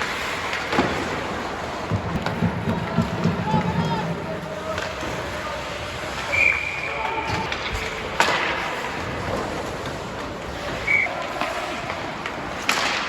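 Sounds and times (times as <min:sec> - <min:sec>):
crowd noise: 0:00.0 - 0:13.0
puck or stick crack: 0:00.0 - 0:13.0
skates on ice: 0:00.0 - 0:13.0.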